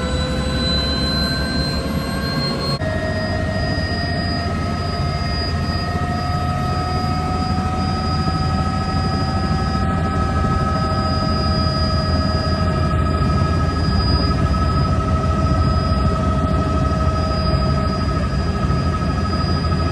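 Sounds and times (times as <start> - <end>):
helicopter engine and rotor: 0.0 - 19.9.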